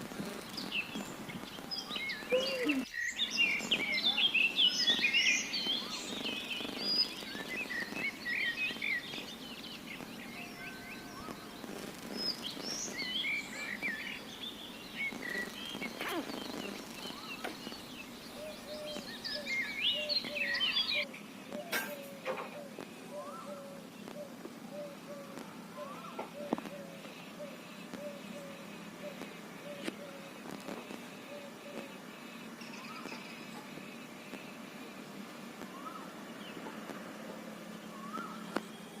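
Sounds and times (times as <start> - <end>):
small birds chirping and twittering: 0.0 - 39.0
steady low background noise: 0.0 - 39.0.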